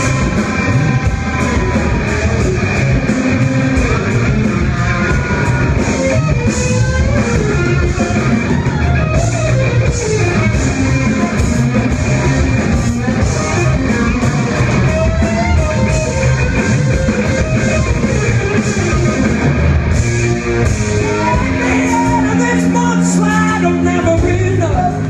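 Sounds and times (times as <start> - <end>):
electric guitar: 0.0 - 25.0
rock band playing loud: 0.0 - 25.0.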